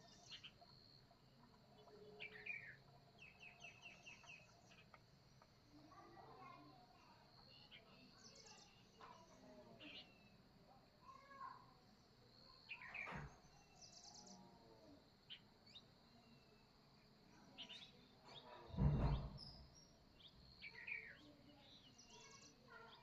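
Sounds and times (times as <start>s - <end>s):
birds chirping: 0.0s - 10.5s, 12.5s - 14.5s, 15.3s - 23.0s.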